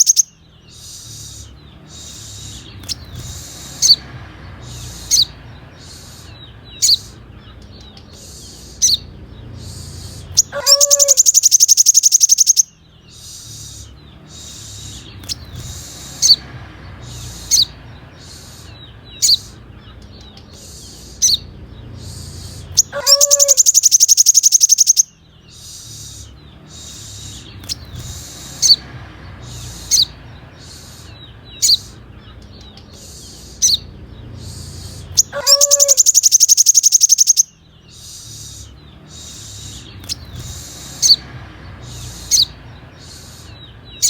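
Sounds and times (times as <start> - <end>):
bird chirping: 0.0 - 44.0
rapid buzzy bird trill: 0.0 - 44.0.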